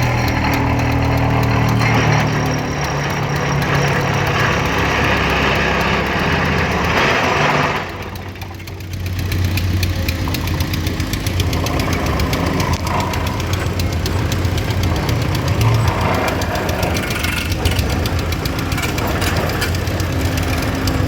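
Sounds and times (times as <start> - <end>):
fast clattering engine knock: 0.0 - 21.0
vehicle engine running: 0.0 - 21.0.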